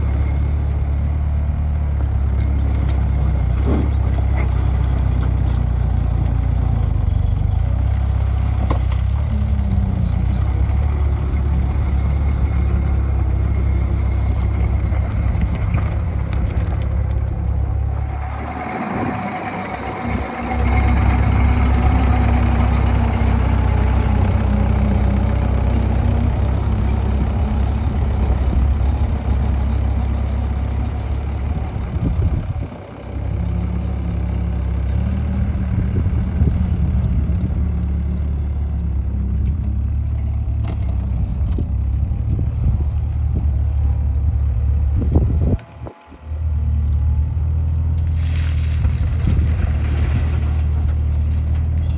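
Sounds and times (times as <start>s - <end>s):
diesel engine rumbling: 0.0s - 51.9s
engine whine: 0.0s - 51.9s.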